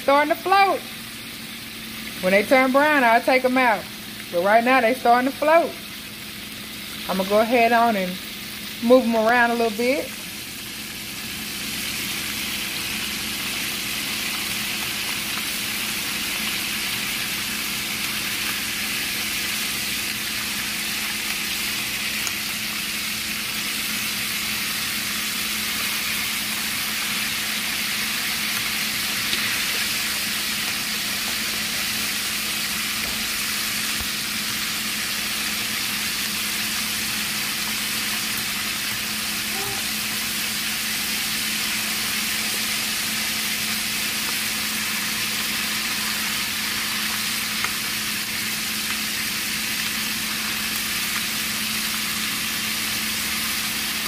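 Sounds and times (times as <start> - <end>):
fish deep-frying in sizzling oil: 0.0 - 54.0.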